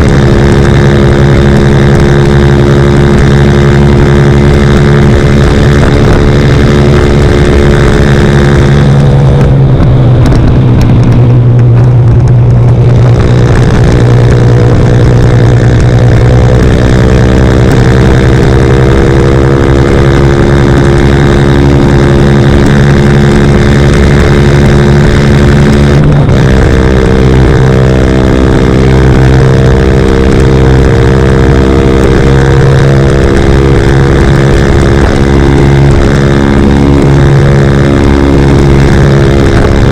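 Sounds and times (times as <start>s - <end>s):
minibike engine running loud: 0.0s - 39.9s.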